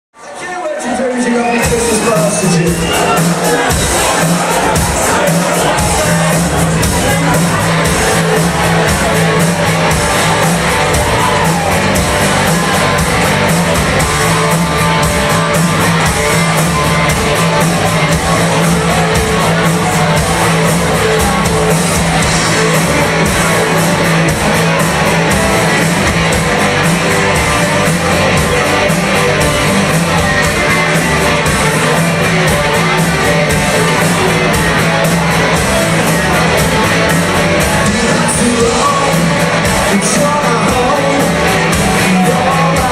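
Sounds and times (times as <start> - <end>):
live rock band playing: 0.3 - 42.9.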